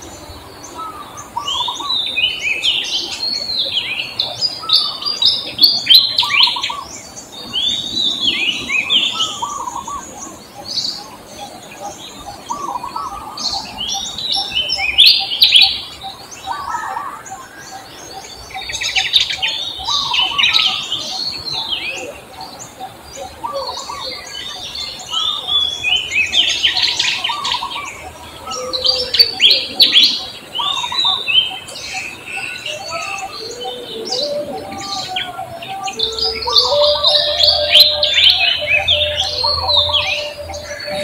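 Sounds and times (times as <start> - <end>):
birds chirping: 0.0 - 41.0
lower held bird notes: 0.0 - 41.0.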